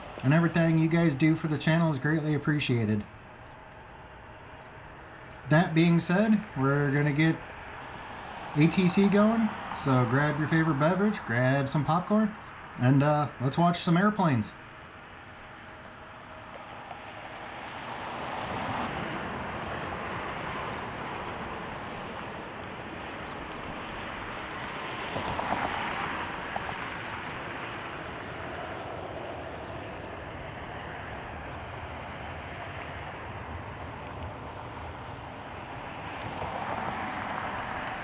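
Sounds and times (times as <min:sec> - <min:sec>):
jet airliner engine rush: 0:00.0 - 0:38.0.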